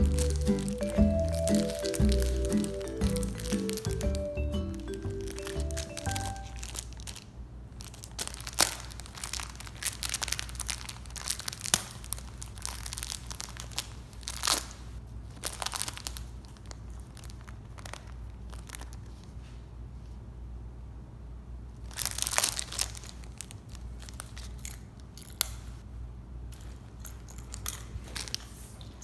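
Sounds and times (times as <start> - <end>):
crunching and crinkling: 0.0 - 19.5, 21.8 - 25.8, 26.5 - 29.0.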